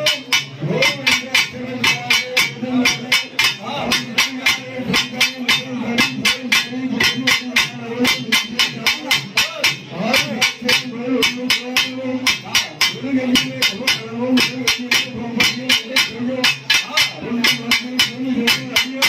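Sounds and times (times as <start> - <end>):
drums beating fast rhythm: 0.0 - 19.0.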